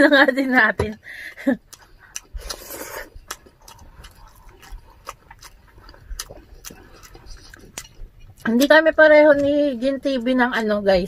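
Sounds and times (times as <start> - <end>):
chewing crunchy food: 1.5 - 10.8.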